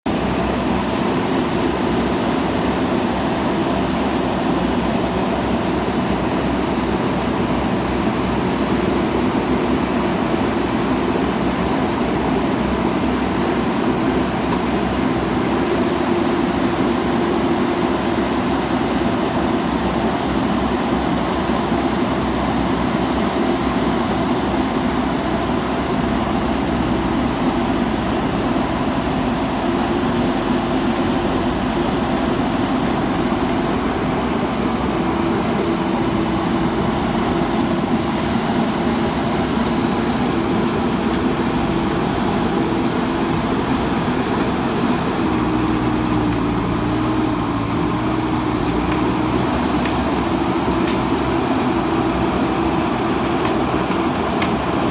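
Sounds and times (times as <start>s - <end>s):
diesel engine running steadily: 0.1s - 54.9s.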